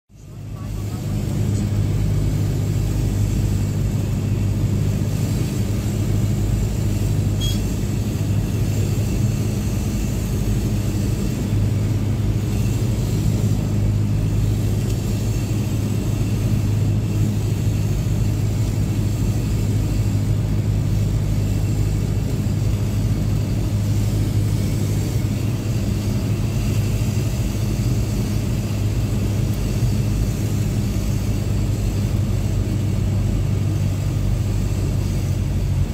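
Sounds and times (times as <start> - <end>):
propeller engine drone: 0.1 - 35.9.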